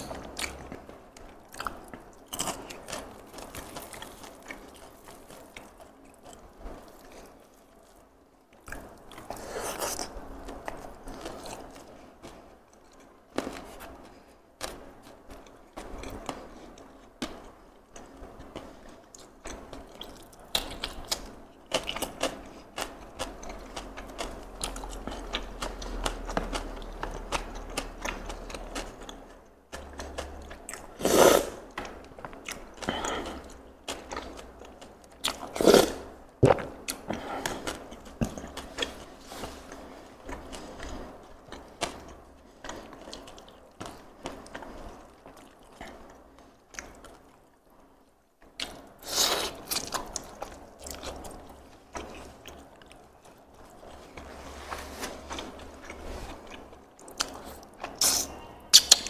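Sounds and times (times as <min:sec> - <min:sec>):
chewing: 0:00.0 - 0:31.0, 0:31.7 - 0:47.9, 0:48.5 - 0:59.0
crispy food crackles and clicks: 0:00.0 - 0:31.0, 0:36.2 - 0:54.4, 0:55.0 - 0:59.0.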